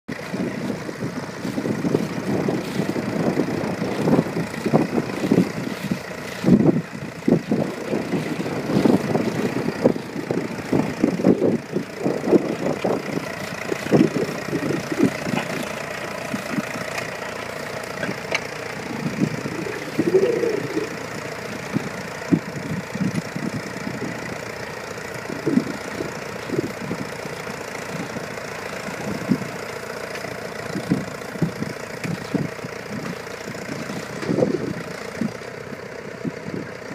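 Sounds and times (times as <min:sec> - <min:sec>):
tractor engine thumping: 0:00.1 - 0:36.9.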